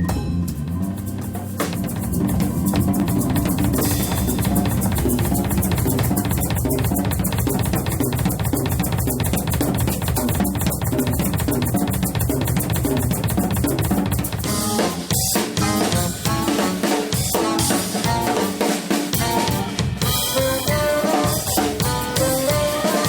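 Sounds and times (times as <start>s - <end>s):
live band playing: 0.0s - 11.7s, 13.7s - 23.0s
rapid cymbal strokes: 0.4s - 23.0s.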